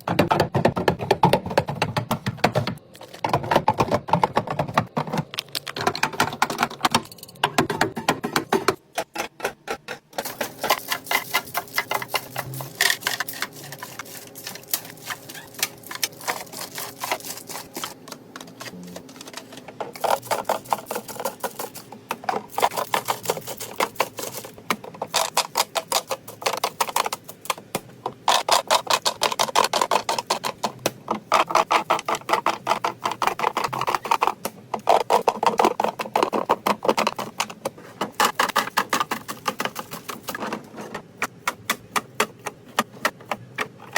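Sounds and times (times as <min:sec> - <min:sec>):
household items clicking and tapping: 0:00.0 - 0:43.9.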